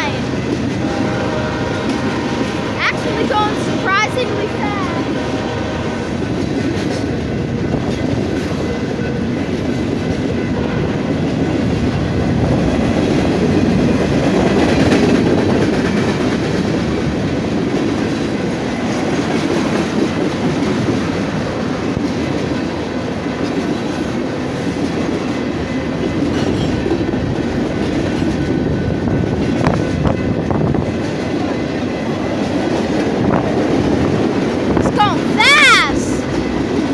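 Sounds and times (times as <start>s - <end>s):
freight train rolling past: 0.0s - 36.9s.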